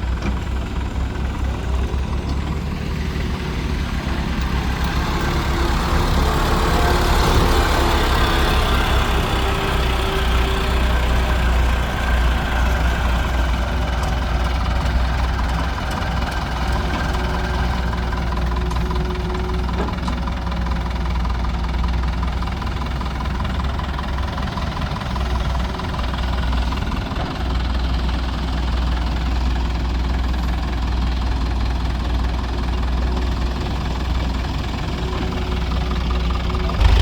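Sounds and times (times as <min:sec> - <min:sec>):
diesel machinery engine drone: 0:00.0 - 0:37.0.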